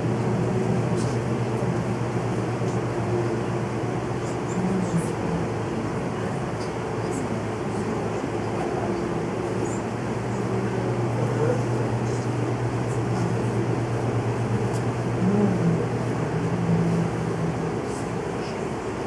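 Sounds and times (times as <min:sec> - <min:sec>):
faint voices murmuring: 0:00.0 - 0:19.0
steady low hum: 0:00.0 - 0:19.0.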